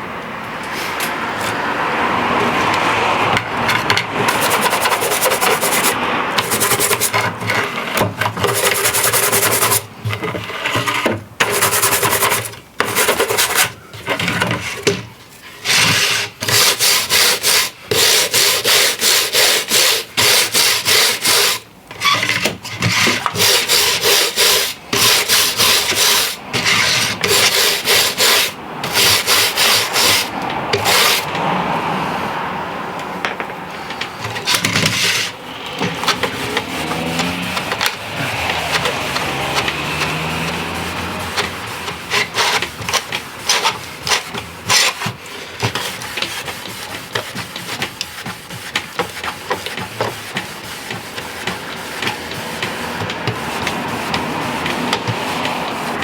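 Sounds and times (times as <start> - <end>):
scrubbing rails: 0.6 - 32.1, 33.0 - 56.0.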